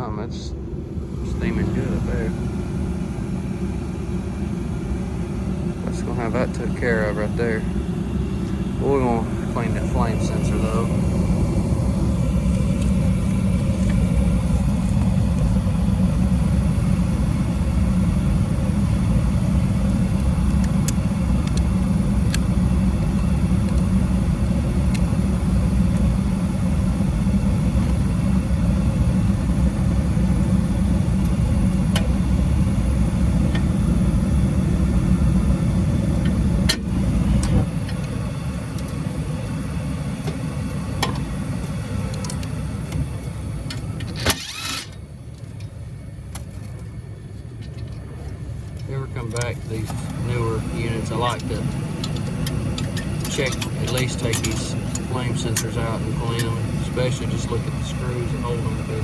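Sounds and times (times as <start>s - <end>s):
furnace blower rumble: 0.0s - 59.0s.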